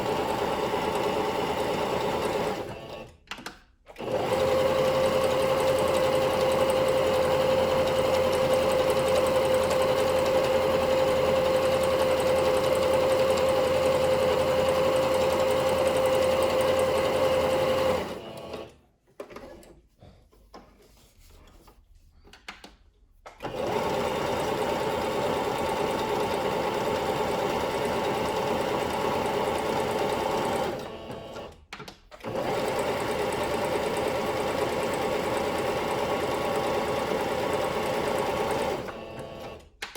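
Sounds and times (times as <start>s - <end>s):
sewing machine running: 0.0s - 3.2s, 4.0s - 18.8s, 23.4s - 31.6s, 32.2s - 39.7s.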